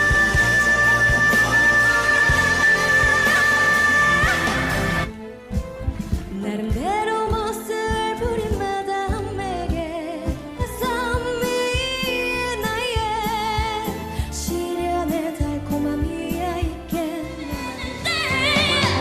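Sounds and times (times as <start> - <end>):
woman singing: 0.0 - 5.1, 6.2 - 19.0.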